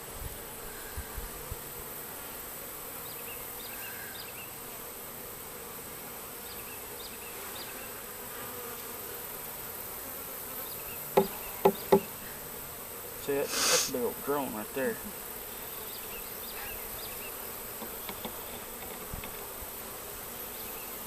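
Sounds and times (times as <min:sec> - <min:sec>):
honey bee swarm buzzing: 0:00.0 - 0:21.0.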